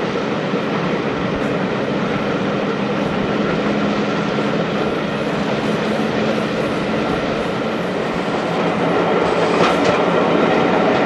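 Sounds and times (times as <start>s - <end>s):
rushing air: 0.0s - 11.0s
train wheels rumbling on rails: 0.0s - 11.0s.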